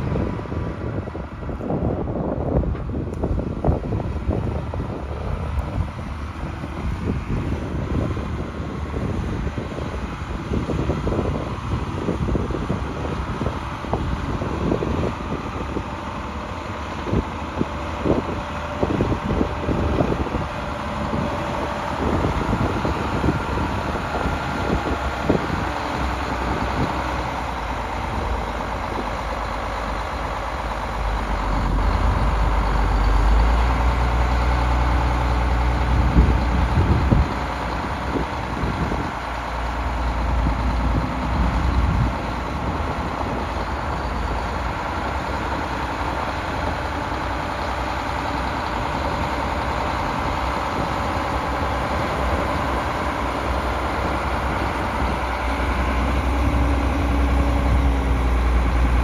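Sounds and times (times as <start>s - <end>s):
tractor diesel rumble: 0.0s - 59.0s
whine from tracks: 0.0s - 59.0s.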